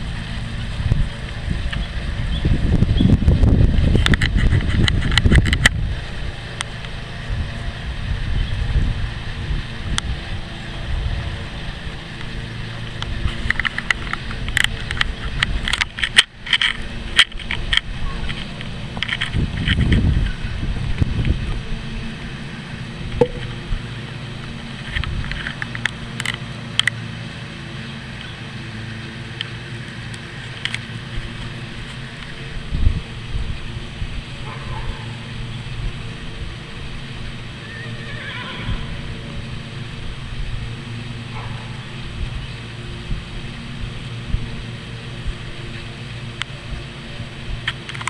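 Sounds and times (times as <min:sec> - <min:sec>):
wind rumbling on microphone: 0:00.0 - 0:26.2, 0:30.6 - 0:48.0.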